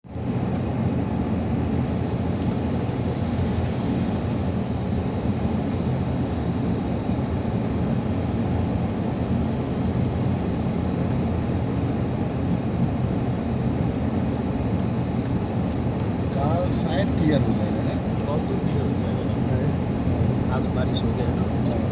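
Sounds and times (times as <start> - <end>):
car engine hum and road noise: 0.1 - 21.9.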